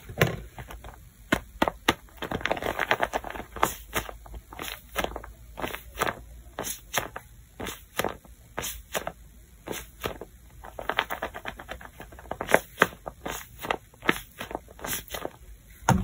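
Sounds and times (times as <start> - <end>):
paper crinkling and crackling: 0.2 - 15.5.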